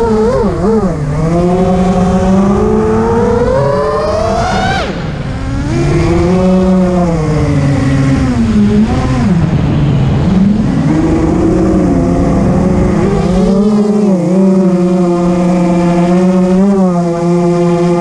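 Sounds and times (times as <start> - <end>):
drone motors and propellers whining: 0.0 - 18.0.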